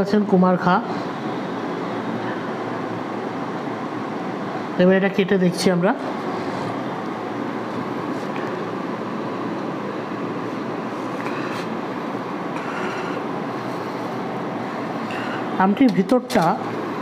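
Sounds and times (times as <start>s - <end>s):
fan rushing noise: 0.0s - 17.0s.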